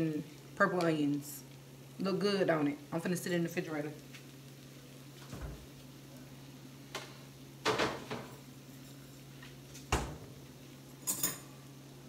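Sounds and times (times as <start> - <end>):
refrigerator low hum: 0.0 - 12.0.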